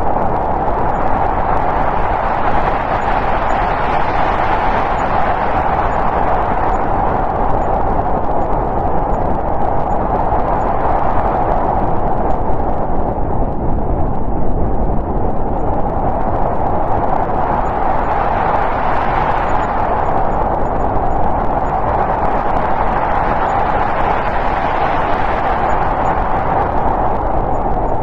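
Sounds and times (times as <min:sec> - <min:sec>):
snowstorm wind blowing: 0:00.0 - 0:28.0.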